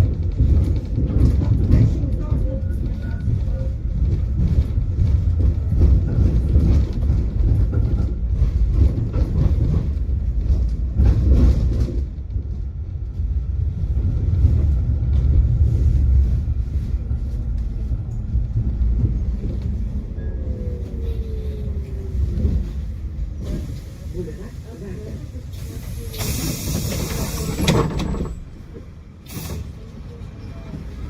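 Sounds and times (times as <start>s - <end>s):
tram rattling: 0.0s - 31.0s
tram wheels rumbling on rails: 0.0s - 31.0s
tram whine: 0.0s - 31.0s.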